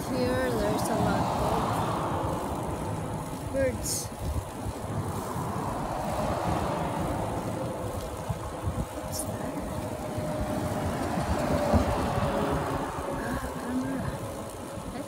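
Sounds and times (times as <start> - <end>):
bicycle road noise: 0.0 - 15.0
wind buffeting the microphone: 0.0 - 15.0.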